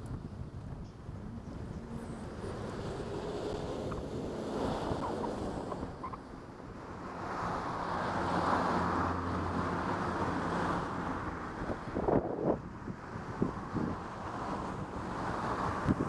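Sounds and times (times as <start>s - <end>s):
tyre and wind noise: 0.0s - 9.1s, 9.8s - 16.0s
low engine hum: 0.0s - 16.0s.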